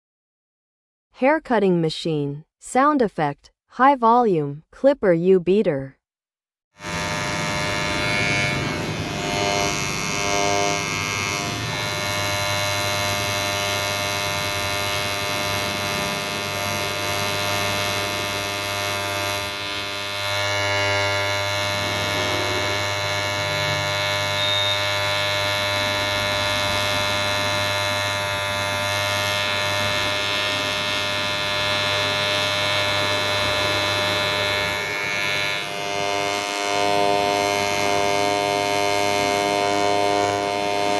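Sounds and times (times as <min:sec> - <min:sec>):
electric hair clipper buzzing: 0:06.8 - 0:40.9.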